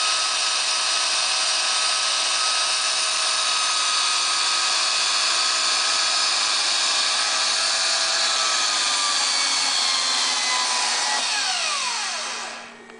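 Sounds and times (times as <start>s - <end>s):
electric mixer whining: 0.0s - 12.9s.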